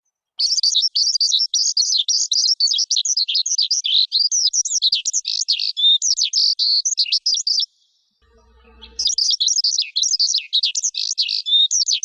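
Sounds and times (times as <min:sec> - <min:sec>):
skylark singing: 0:00.4 - 0:12.0.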